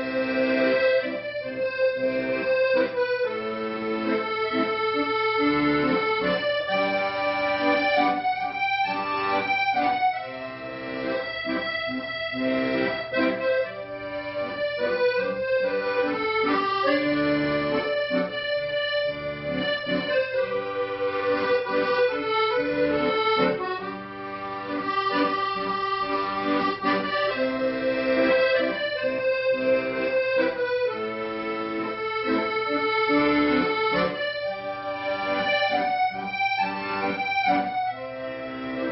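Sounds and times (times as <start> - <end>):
accordion melody over chords: 0.0 - 38.9.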